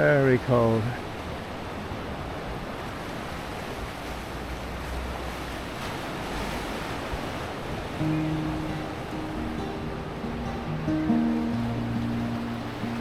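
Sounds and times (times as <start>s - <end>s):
surf washing against shore: 0.0s - 13.0s.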